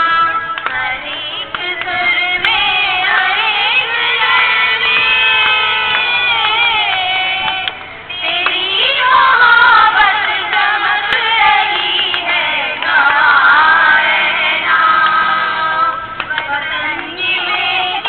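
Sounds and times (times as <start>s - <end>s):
person singing into a microphone: 0.0s - 18.0s
young women singing together: 0.0s - 18.0s.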